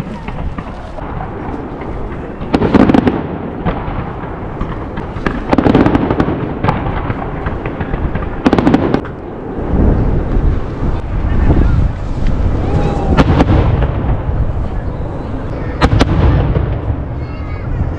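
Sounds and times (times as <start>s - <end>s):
deep rolling fireworks booms: 0.0s - 17.9s
fireworks crackling bangs: 0.0s - 17.9s.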